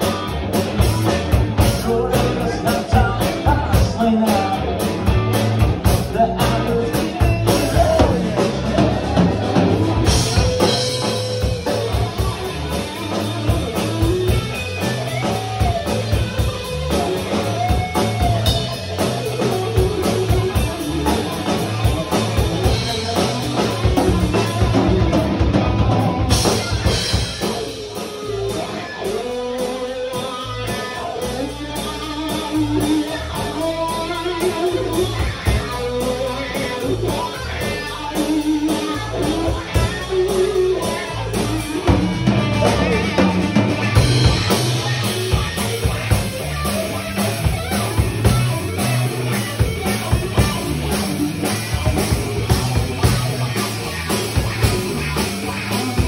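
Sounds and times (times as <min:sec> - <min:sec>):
drum kit: 0:00.0 - 0:56.0
electric guitar melody: 0:00.0 - 0:56.0.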